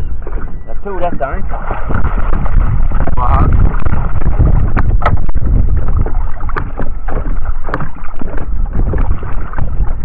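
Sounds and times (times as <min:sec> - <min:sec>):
water sloshing and splashing: 0:00.0 - 0:10.0
wind buffeting microphone: 0:00.0 - 0:10.0.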